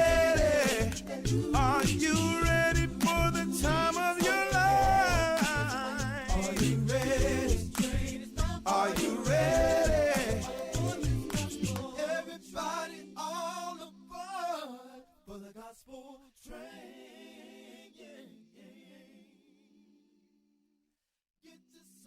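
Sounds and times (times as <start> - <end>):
gospel vocal group singing: 0.0 - 20.0.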